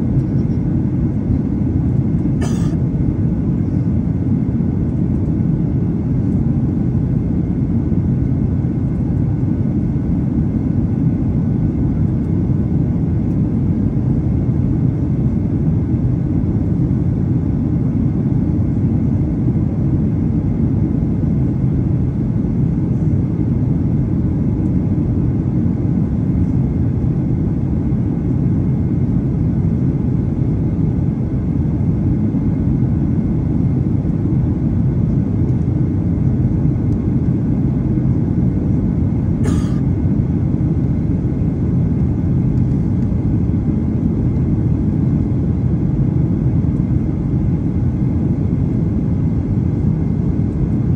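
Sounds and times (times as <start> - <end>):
airliner cabin roar: 0.0 - 50.9.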